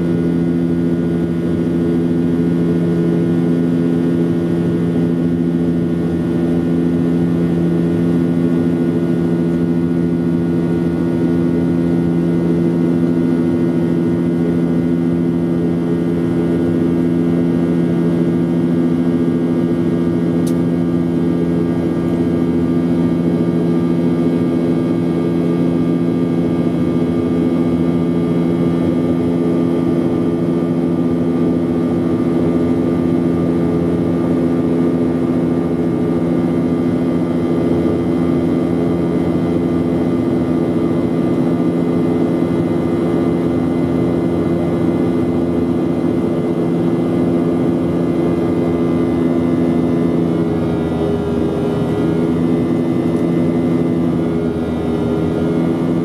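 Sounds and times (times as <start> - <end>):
jet engines droning in cabin: 0.0 - 56.0.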